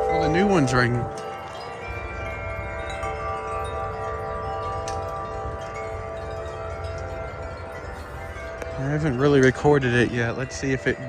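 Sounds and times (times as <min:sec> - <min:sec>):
low wind rumble: 0:00.0 - 0:11.0
metal wind chimes ringing: 0:00.0 - 0:11.0.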